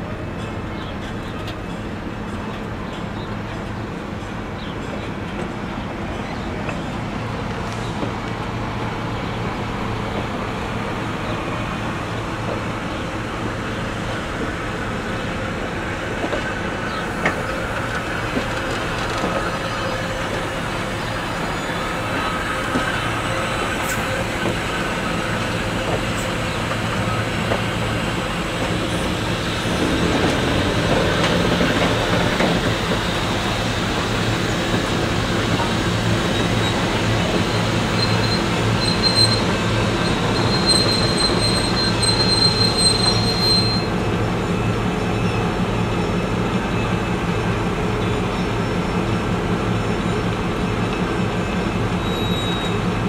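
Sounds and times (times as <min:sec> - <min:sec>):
train wheels rolling on rails: 0:00.1 - 0:53.0.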